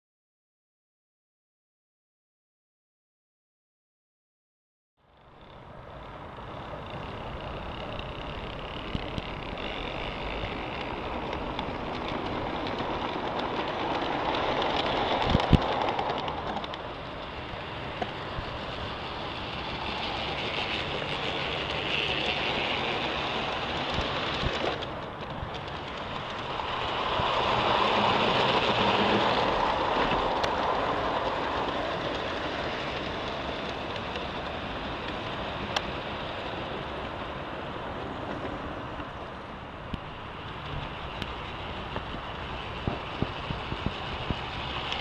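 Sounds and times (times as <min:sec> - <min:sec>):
model train wheels clattering: 0:05.2 - 0:45.0.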